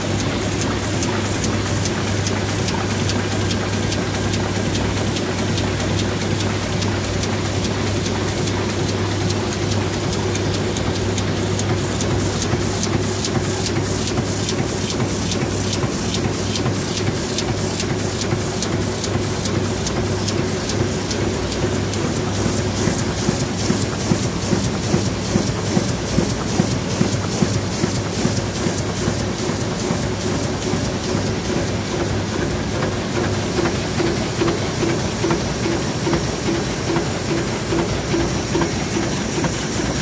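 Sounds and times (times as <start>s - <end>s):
printing press mechanical hum: 0.0s - 40.0s.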